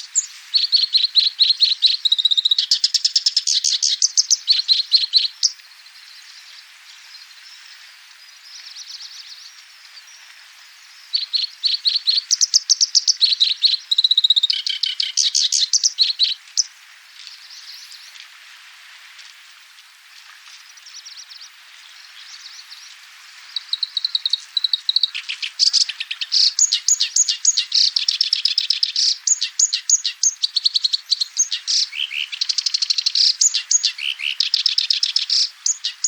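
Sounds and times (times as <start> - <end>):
reed warbler chattering song: 0.0 - 18.3, 20.5 - 36.0.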